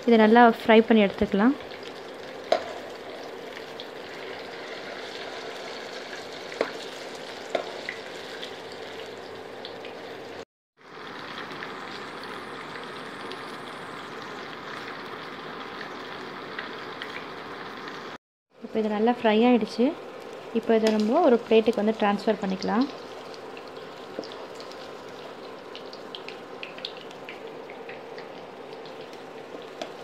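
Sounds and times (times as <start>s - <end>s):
paneer sizzling in hot oil: 0.0s - 30.0s.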